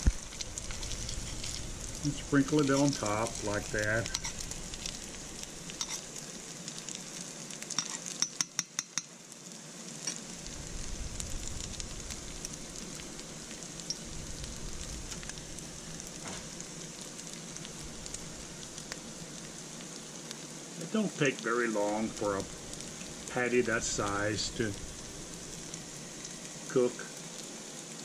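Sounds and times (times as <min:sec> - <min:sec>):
patties sizzling in a pan: 0:00.0 - 0:28.0.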